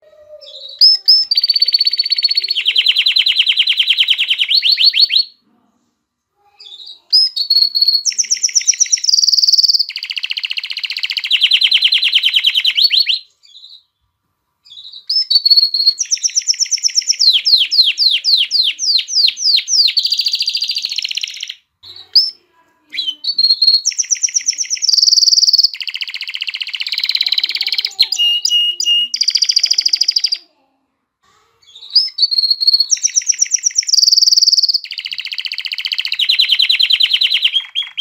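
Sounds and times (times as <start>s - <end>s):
canary singing rolling trills: 0.0s - 5.5s, 6.4s - 30.6s, 31.6s - 38.0s.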